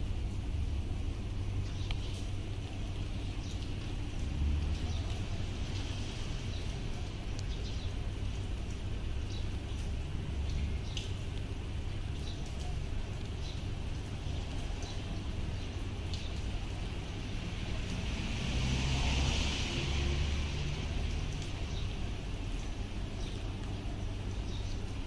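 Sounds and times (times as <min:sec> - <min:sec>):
car tyres hissing on wet street: 0:00.0 - 0:25.0.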